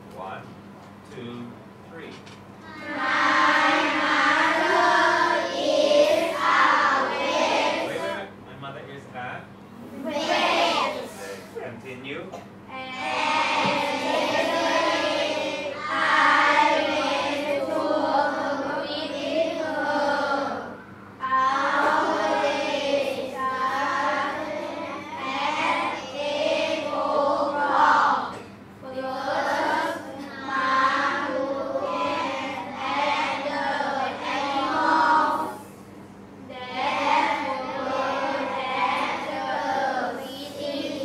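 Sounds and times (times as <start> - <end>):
children reading aloud in unison: 2.6 - 8.3, 9.9 - 11.5, 12.7 - 35.7, 36.4 - 41.0.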